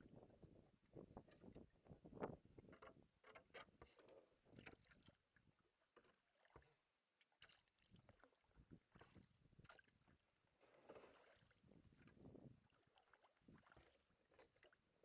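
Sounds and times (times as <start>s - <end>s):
paddle water splashes and drips: 2.6s - 15.0s.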